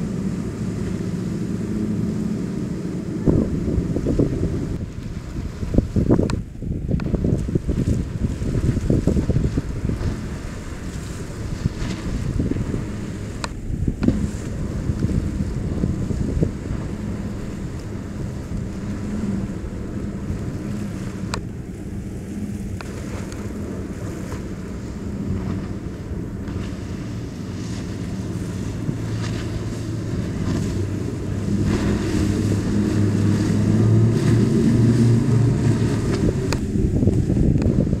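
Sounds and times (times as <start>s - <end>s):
outboard engines droning: 0.0s - 38.0s
wind buffeting microphone: 0.0s - 38.0s.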